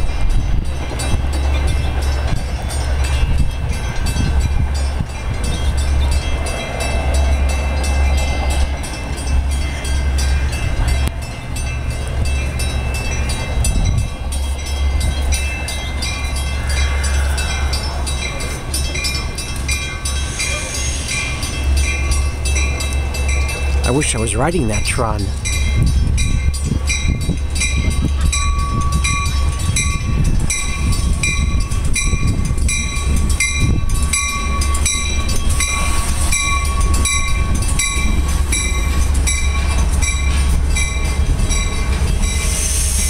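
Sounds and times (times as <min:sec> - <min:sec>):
wheel and rail clatter: 0:00.0 - 0:24.2, 0:25.3 - 0:43.0
diesel train engine drone: 0:00.0 - 0:43.0.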